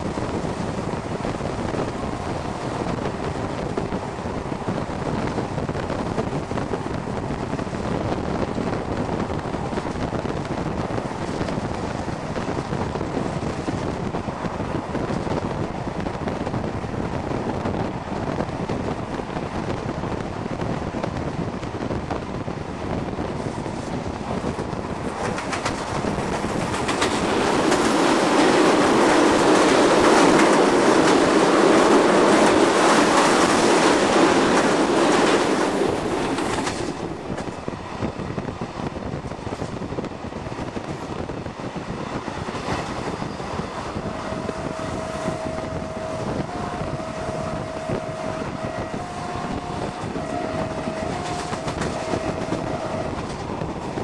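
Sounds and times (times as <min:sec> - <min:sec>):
train wheels clickety-clack: 0:00.0 - 0:54.0.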